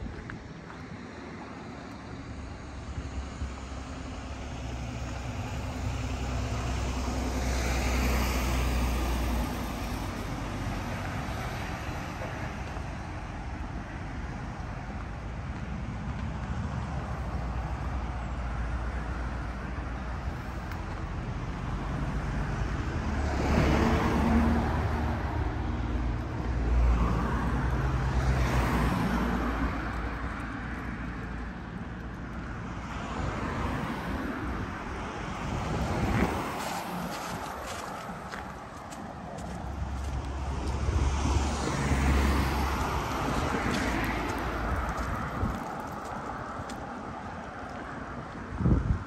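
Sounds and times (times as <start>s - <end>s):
cars passing close: 0.0s - 49.0s
traffic hum: 0.0s - 49.0s.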